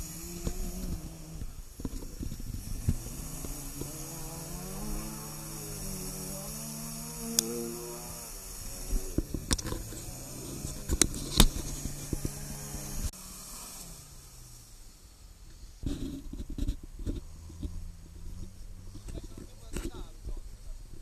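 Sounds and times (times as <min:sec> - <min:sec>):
engine running at low revs: 0:00.0 - 0:21.0.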